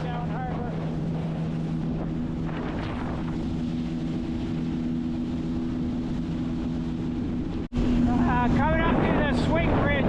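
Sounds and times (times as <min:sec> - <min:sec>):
watercraft engine drone: 0:00.0 - 0:10.0.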